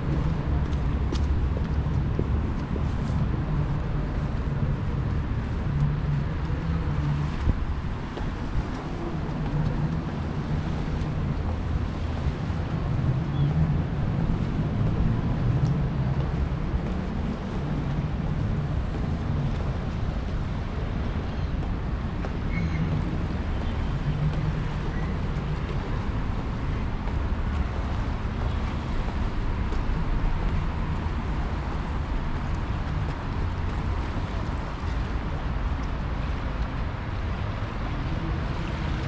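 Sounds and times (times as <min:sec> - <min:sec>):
road noise: 0:00.0 - 0:39.0.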